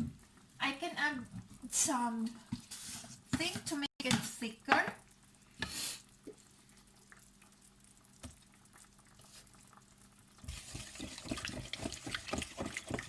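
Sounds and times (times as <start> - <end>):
food bubbling and sizzling in a pot: 0.0 - 13.0.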